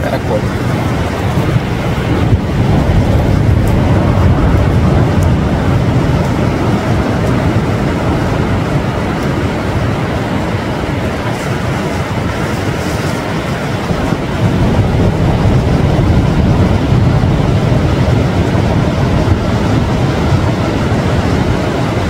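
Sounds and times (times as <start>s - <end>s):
ocean surf: 0.0s - 22.0s
wind on microphone: 0.0s - 22.0s.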